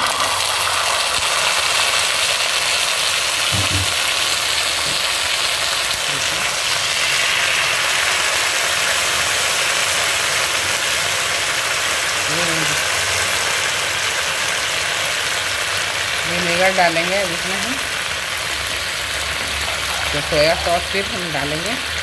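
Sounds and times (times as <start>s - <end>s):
sauce sizzling in hot oil: 0.0s - 22.0s.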